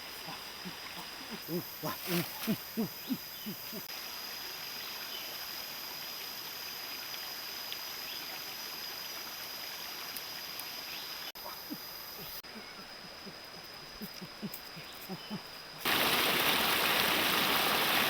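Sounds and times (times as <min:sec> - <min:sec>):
running water rushing: 0:00.0 - 0:12.3, 0:14.6 - 0:18.0.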